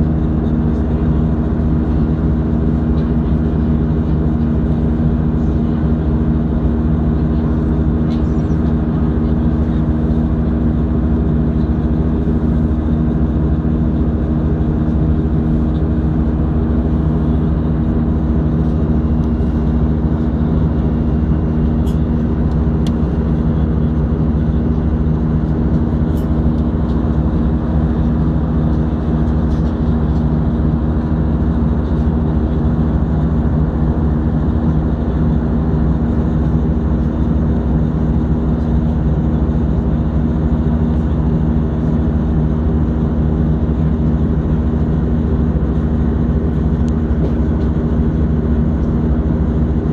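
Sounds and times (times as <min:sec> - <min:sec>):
jet engine drone: 0:00.0 - 0:49.9.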